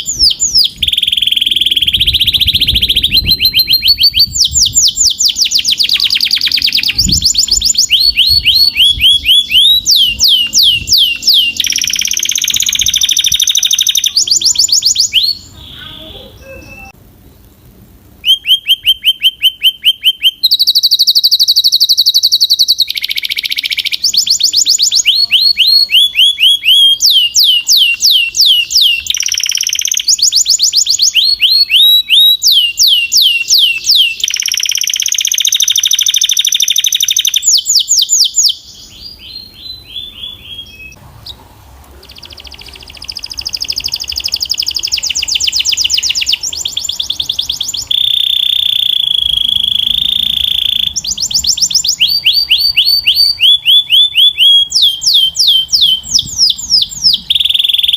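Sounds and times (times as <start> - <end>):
canary singing trills: 0.0 - 17.4, 18.2 - 57.9.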